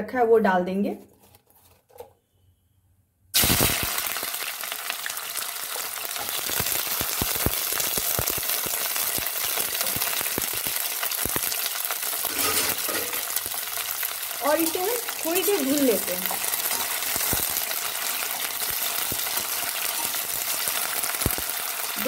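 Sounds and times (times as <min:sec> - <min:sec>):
oil crackles and pops: 0:03.3 - 0:22.0
food sizzling in hot oil: 0:03.4 - 0:22.0.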